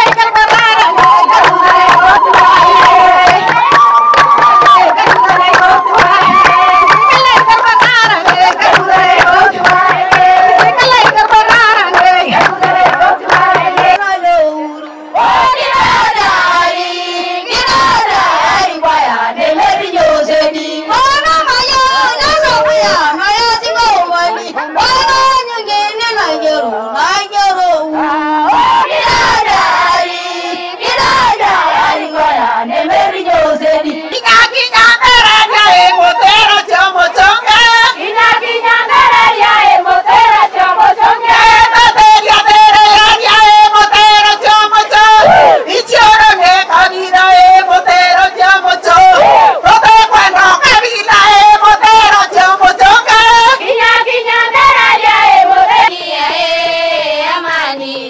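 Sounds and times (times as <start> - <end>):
women singing together: 0.0 - 58.0.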